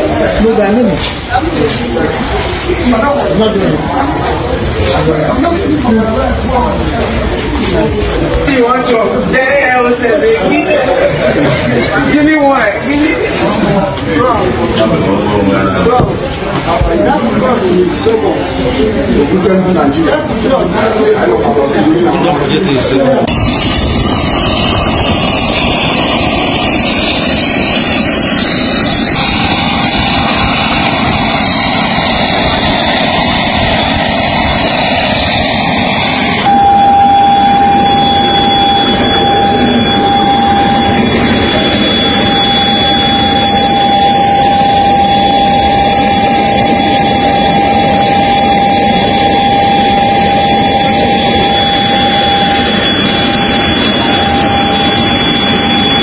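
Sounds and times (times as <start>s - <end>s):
high whine: 0.0s - 56.0s
jet aircraft engines running: 0.0s - 56.0s.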